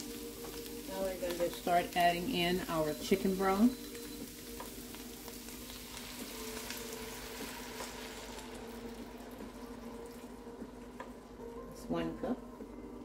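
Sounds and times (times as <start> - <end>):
chicken sizzling in butter: 0.0 - 11.4.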